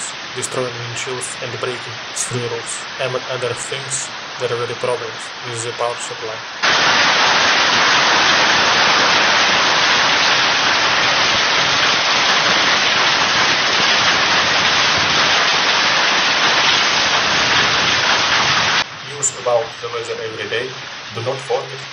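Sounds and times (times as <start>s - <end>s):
hail and rain pelting down: 0.0s - 21.9s.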